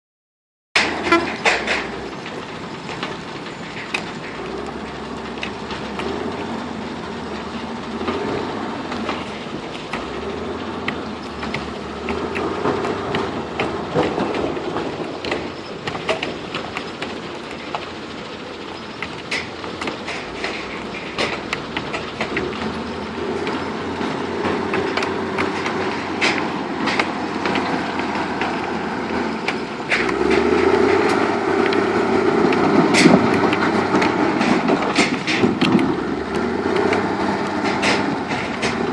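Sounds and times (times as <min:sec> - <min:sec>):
diesel engine running: 0:00.8 - 0:38.9.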